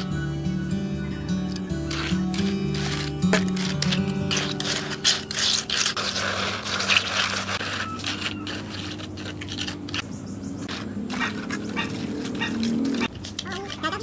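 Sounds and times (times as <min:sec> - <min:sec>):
trowel scraping wet mortar: 0:01.5 - 0:13.1.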